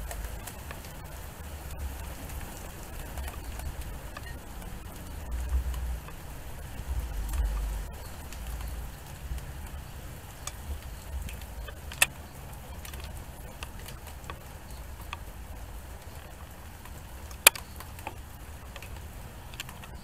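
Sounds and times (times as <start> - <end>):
drops ticking on a surface: 0.0 - 20.0
rain: 0.0 - 20.0.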